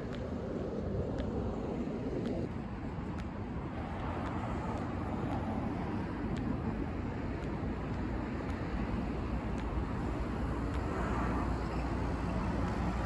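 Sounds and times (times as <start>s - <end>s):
faint light ticks: 0.0s - 0.4s, 1.1s - 1.4s, 2.2s - 13.0s
road traffic rumble: 0.0s - 13.0s.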